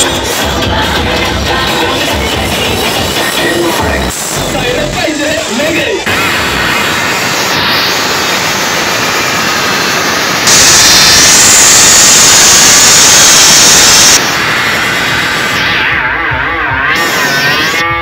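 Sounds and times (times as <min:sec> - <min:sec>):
loud steady rushing noise: 0:00.0 - 0:17.9.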